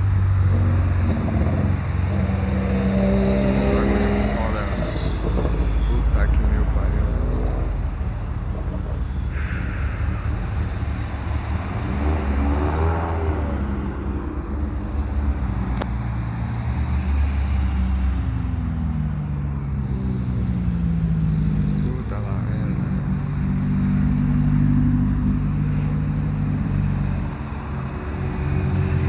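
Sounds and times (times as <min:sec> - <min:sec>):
car engines running loud: 0:00.0 - 0:29.0.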